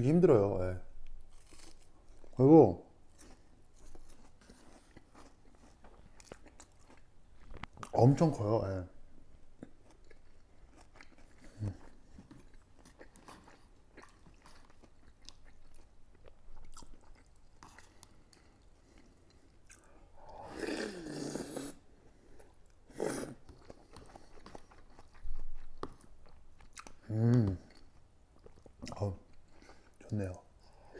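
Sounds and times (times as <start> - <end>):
chewing crisp fried food: 1.0 - 2.4, 3.1 - 30.9.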